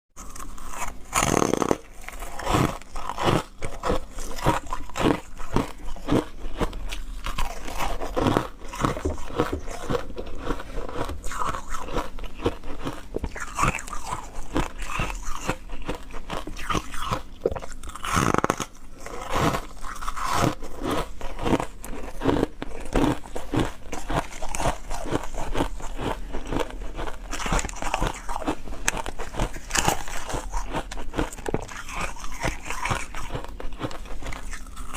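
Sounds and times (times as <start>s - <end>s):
ice crunching between teeth: 0.2s - 34.9s.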